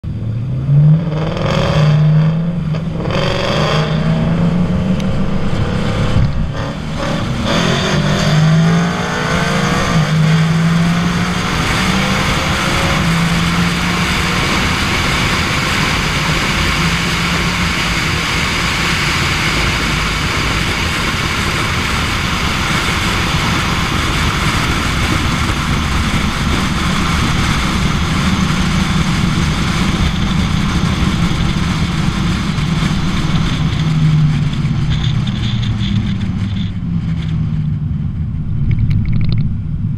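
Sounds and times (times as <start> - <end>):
car engine accelerating: 0.0 - 39.9
wind rush over microphone: 2.0 - 39.9.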